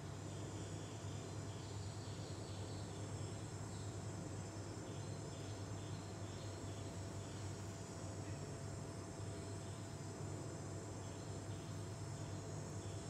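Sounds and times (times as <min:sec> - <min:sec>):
insects chirping in pulses: 0:00.0 - 0:13.0
steady low hum: 0:00.0 - 0:13.0.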